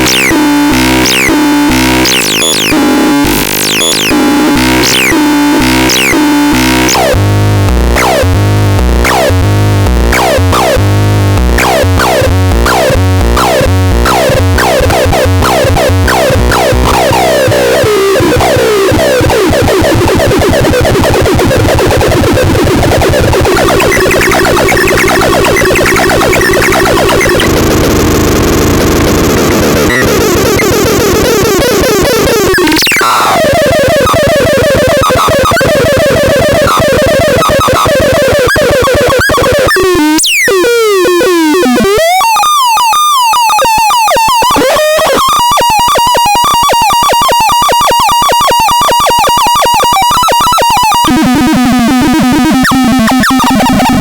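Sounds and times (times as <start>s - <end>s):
buzzy synthesized electronic tones: 0.0s - 54.0s.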